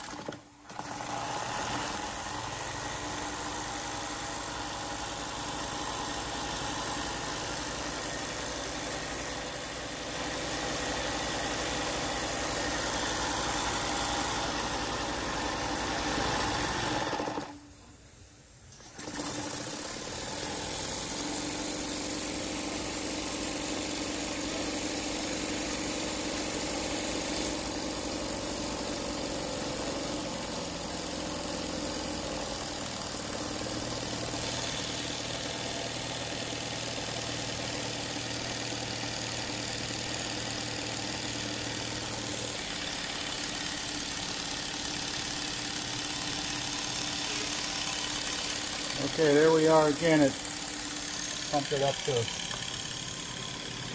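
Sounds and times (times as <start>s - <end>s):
model steam engine running: 0.0s - 17.6s, 18.9s - 53.9s.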